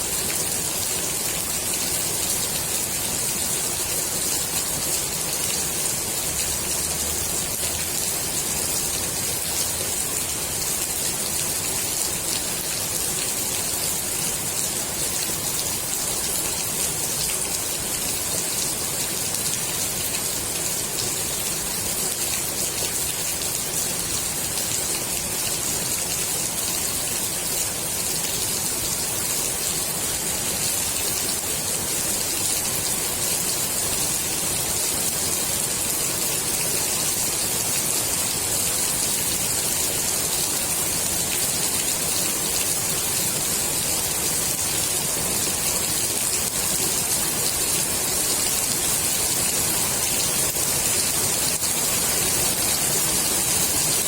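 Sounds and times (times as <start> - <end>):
rain falling on pool water: 0.0 - 54.0.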